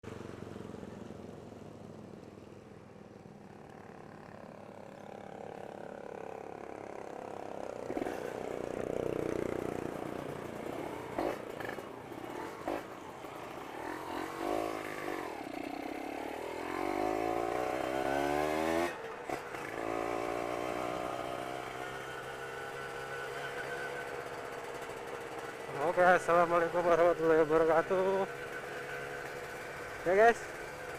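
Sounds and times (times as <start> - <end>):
motorcycle engine revving: 3.4 - 30.9.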